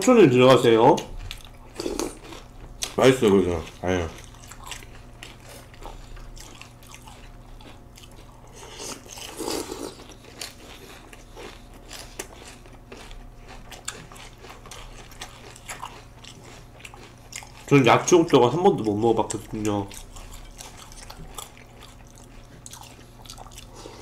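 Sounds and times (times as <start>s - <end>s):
people chewing crunchy cereal: 0.1s - 24.0s.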